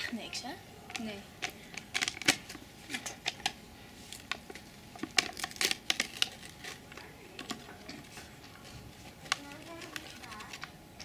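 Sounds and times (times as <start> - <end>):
crisps crackling in tube: 0.8 - 11.0.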